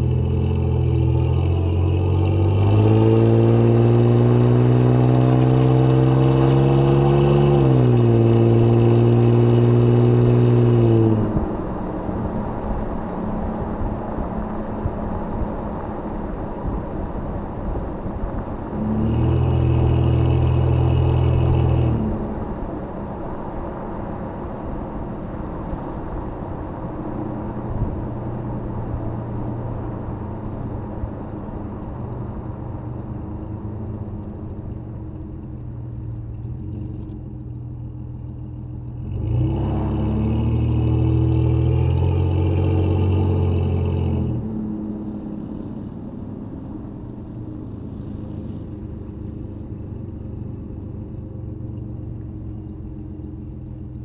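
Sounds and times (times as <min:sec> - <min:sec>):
car engine and exhaust driving: 0:00.0 - 0:54.0.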